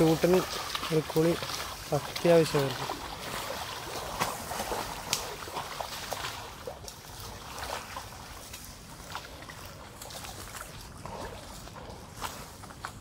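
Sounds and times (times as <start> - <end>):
water sloshing around buffaloes: 0.0 - 13.0.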